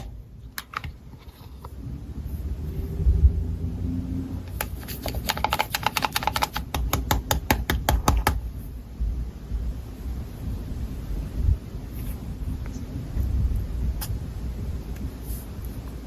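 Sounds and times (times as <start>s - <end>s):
low rumble of handling noise: 0.0s - 16.0s.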